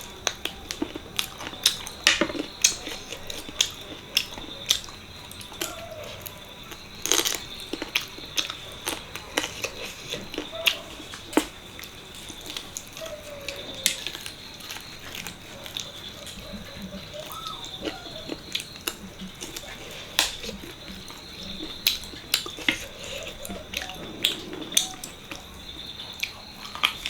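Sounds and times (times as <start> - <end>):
wet chewing and lip smacks: 0.0 - 27.0.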